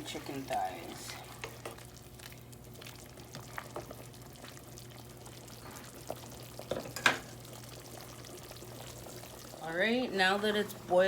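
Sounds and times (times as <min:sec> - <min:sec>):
soup boiling in a pot: 0:00.0 - 0:11.0.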